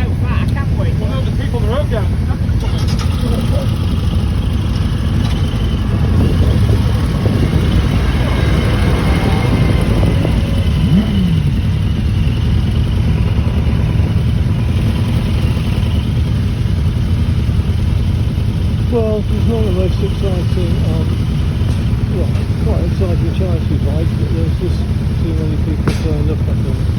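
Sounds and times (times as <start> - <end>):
motorcycle engines rumbling: 0.0 - 26.9.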